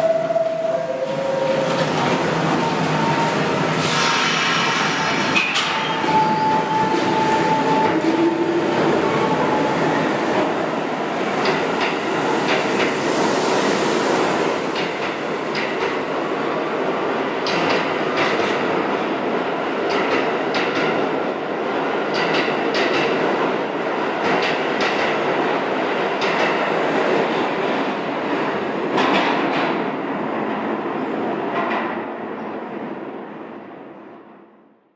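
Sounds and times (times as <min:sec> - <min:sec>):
subway train rumbling: 0:00.0 - 0:34.9.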